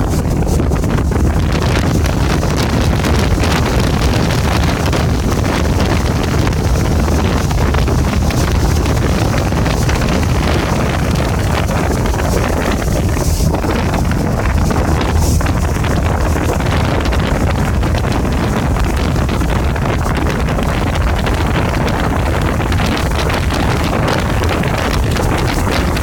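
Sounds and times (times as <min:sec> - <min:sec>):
rush of boat wake: 0:00.0 - 0:26.0
speedboat engine running: 0:00.0 - 0:26.0
wind buffeting microphone: 0:00.0 - 0:26.0.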